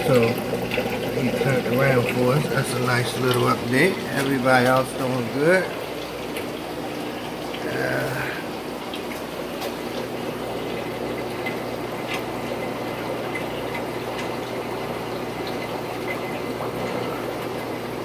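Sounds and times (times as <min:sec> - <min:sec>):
low electric pump hum: 0:00.0 - 0:18.0
small pops and drips: 0:00.0 - 0:18.0
water bubbling and trickling: 0:00.0 - 0:18.0.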